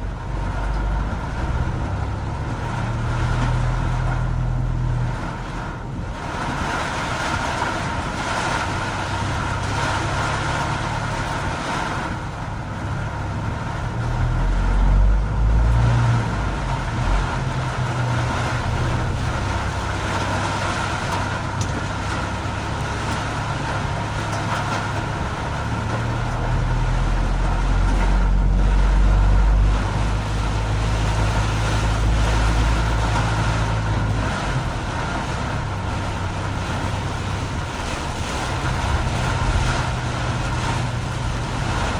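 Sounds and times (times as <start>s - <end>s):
tyres spraying on wet road: 0.0s - 41.9s
vehicle engine and road rumble: 0.0s - 41.9s.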